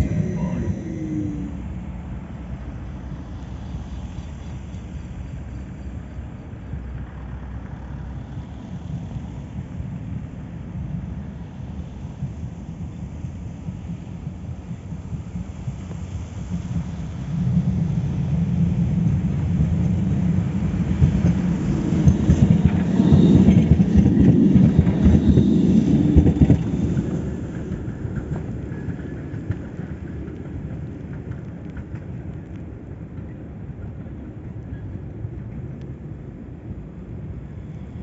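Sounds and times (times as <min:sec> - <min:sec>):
tram passing on rails: 0:00.0 - 0:38.0.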